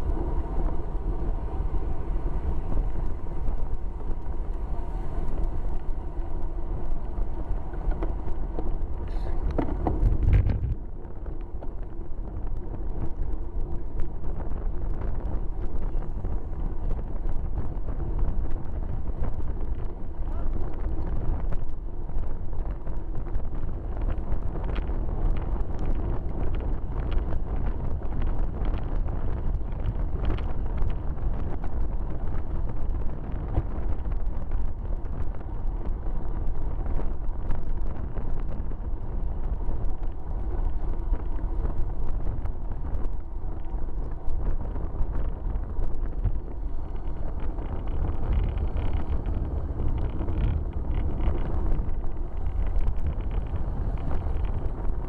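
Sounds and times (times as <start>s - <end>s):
tyres on wet tarmac: 0.0s - 55.0s
wind rushing on microphone: 0.0s - 55.0s.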